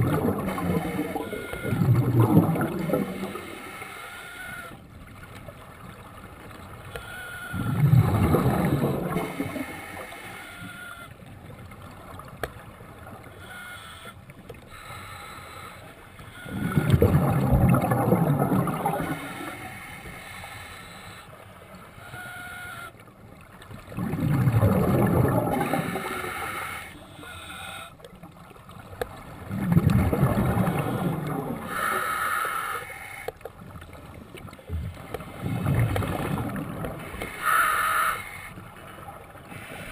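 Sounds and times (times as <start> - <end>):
underwater exhaust bubbles gurgling: 0.0 - 4.1, 4.7 - 10.5, 14.1 - 20.6, 22.9 - 39.9.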